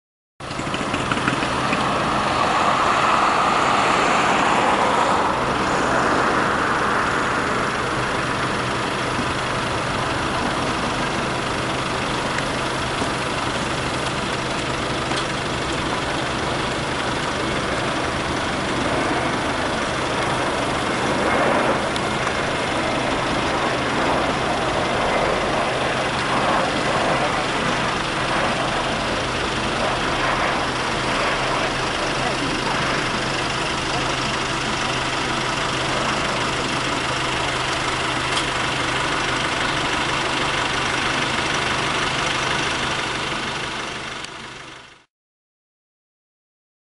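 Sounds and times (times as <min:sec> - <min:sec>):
jet engines roaring: 0:00.4 - 0:44.4.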